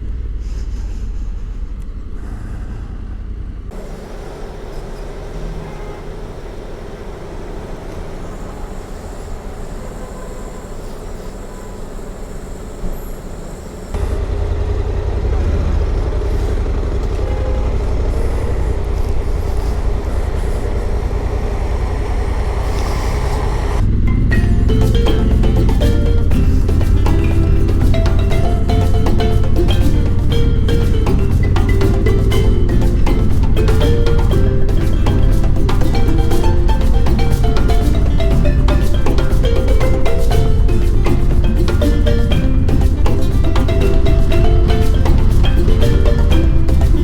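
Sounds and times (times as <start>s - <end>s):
road noise: 0.0s - 47.0s
vehicle engine running: 0.0s - 47.0s.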